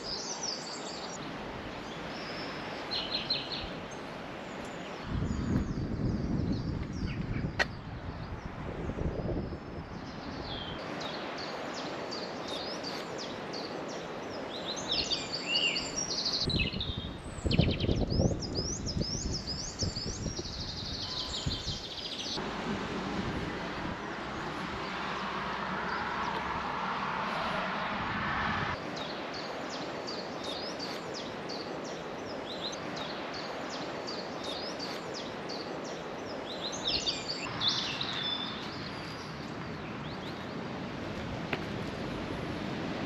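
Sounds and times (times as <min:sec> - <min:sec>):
songbirds chirping: 0:00.0 - 0:43.0
steady outdoor hiss: 0:00.0 - 0:43.0.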